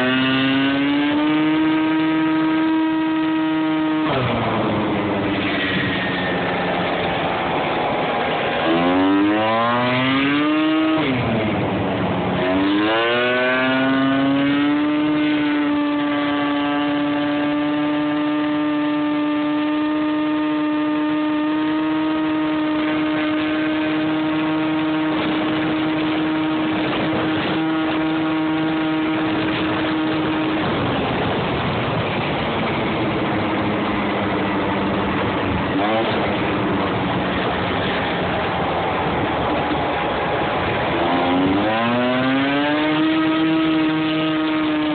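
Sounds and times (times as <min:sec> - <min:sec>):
scooter engine revving: 0:00.0 - 0:44.9.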